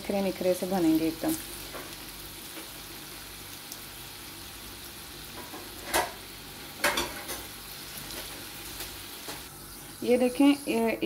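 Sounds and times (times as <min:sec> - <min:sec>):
fries sizzling in hot oil: 0:00.0 - 0:11.0.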